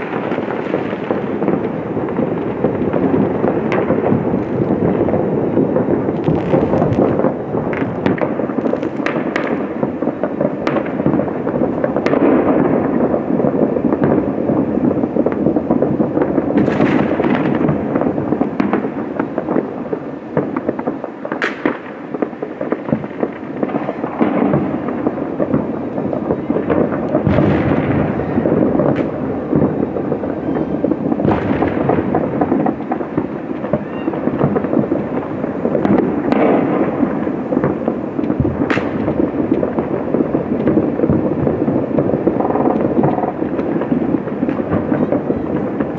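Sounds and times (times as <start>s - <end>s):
fireworks cracks: 0.0s - 45.9s
fireworks rumbling: 0.0s - 45.9s.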